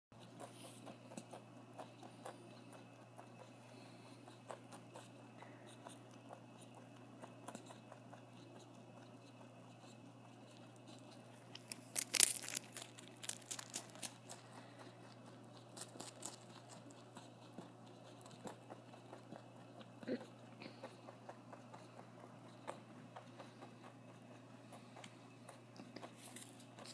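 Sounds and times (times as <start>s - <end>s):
faint steady hum: 0.2s - 26.9s
rabbit chewing cracker: 0.2s - 26.9s.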